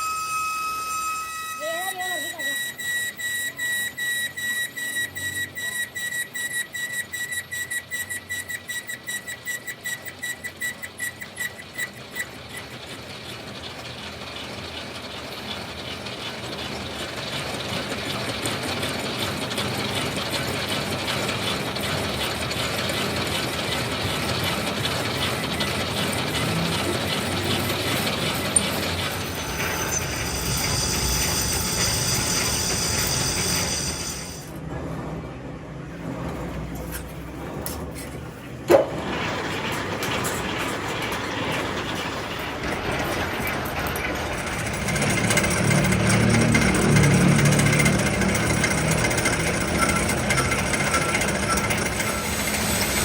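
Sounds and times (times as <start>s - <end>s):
machine tool clatter and whine: 0.0s - 53.0s
rough machining noise: 0.0s - 53.0s.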